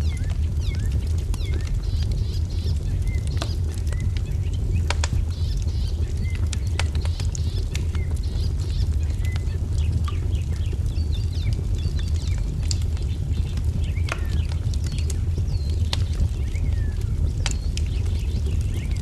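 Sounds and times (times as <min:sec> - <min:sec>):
songbirds chirping and trilling: 0:00.0 - 0:19.0
wood fire crackling and popping: 0:00.0 - 0:19.0.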